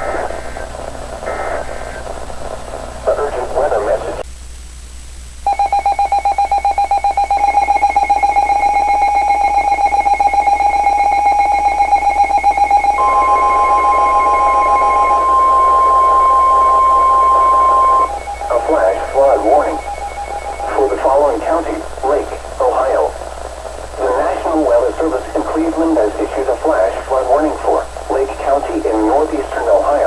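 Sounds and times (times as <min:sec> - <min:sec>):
rapid electronic alarm beeps: 0:05.5 - 0:30.0
steady warning alert tone: 0:05.5 - 0:30.0.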